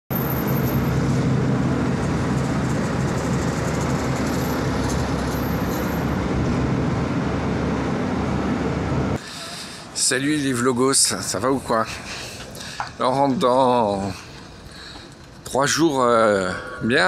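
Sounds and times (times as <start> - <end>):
road traffic rumble: 0.1 - 16.8.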